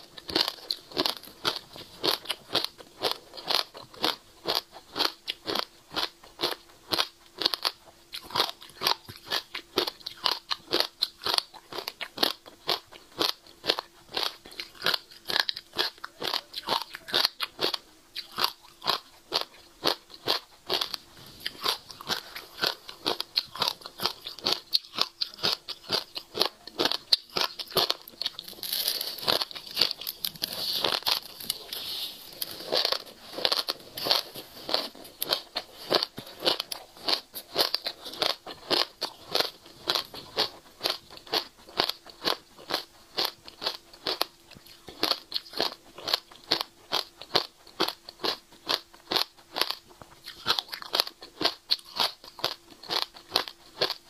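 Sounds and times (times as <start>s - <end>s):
seeds being chewed crunchily: 0.0s - 54.0s.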